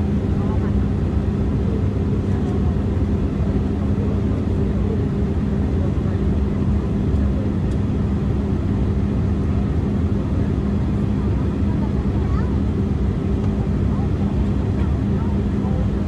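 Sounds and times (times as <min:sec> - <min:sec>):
airliner cabin engine drone: 0:00.0 - 0:16.0
constant low hum: 0:00.0 - 0:16.0.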